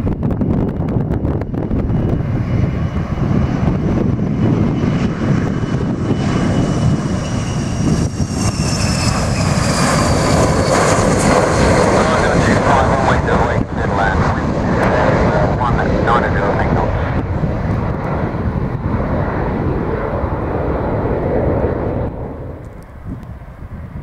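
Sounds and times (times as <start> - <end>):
airliner engines whining: 0.0 - 24.0
wind buffeting microphone: 0.0 - 24.0.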